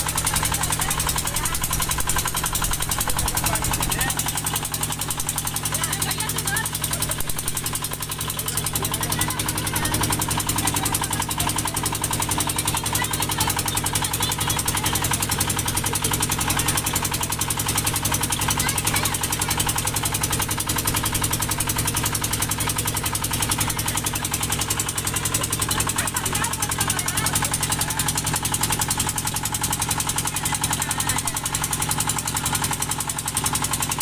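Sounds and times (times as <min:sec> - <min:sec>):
motorboat engine running: 0:00.0 - 0:34.0.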